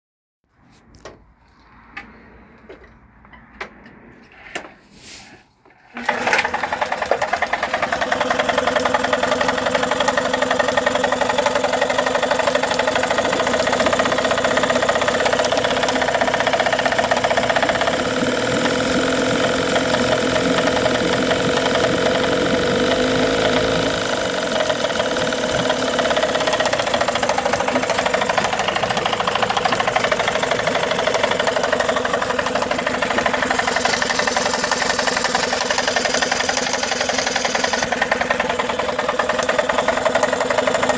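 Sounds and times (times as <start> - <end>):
outboard motor idling with knocking: 6.0 - 40.9.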